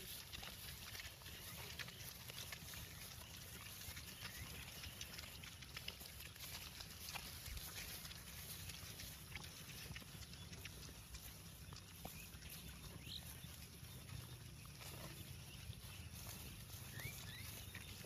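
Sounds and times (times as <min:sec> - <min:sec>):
cattle hooves clicking and scuffing: 0:00.0 - 0:18.0.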